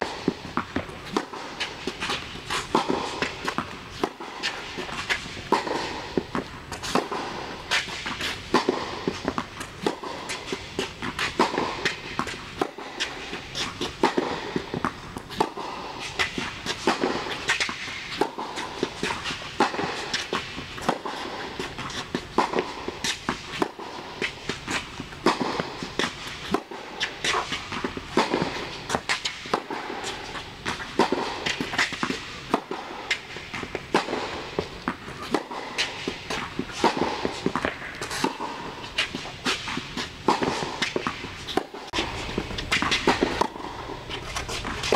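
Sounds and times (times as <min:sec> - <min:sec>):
footsteps on court: 0:00.0 - 0:44.9
tennis balls struck by rackets: 0:00.0 - 0:44.9.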